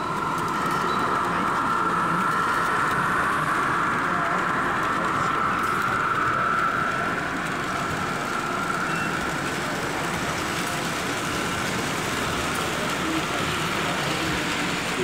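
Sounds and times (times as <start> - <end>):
hall background noise: 0.0 - 15.0
model train motor whine: 0.0 - 15.0.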